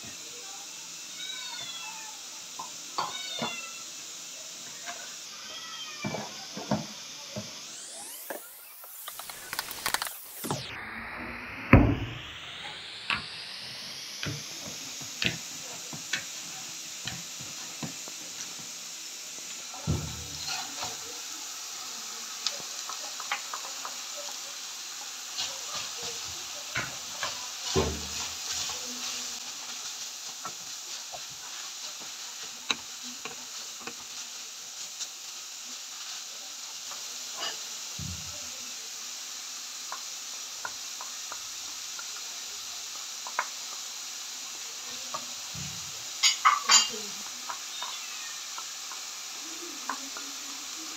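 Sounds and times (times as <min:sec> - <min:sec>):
meat sizzling in a pan: 0:00.0 - 0:50.9.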